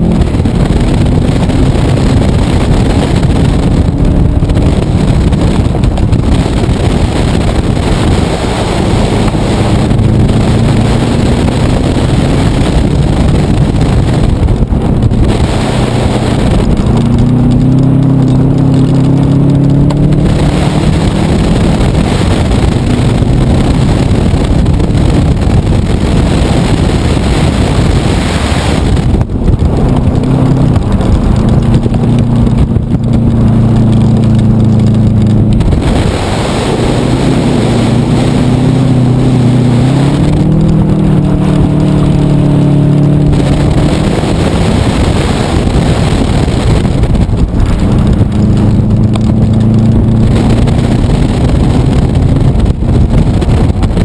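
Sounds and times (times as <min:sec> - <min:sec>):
car engine revving hard: 0:00.0 - 0:54.0
loud rushing noise: 0:00.0 - 0:54.0.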